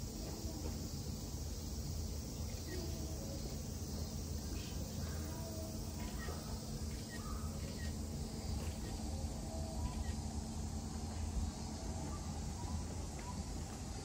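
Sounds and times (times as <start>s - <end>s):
steady low rumble and hiss: 0.0s - 14.0s.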